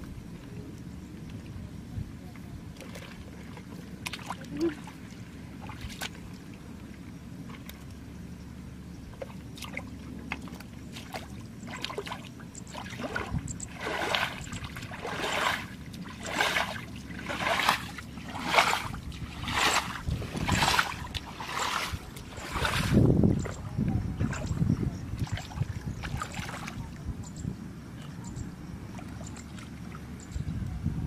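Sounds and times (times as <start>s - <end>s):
wading steps in muddy water: 2.3s - 8.0s, 9.1s - 27.3s, 28.8s - 30.2s.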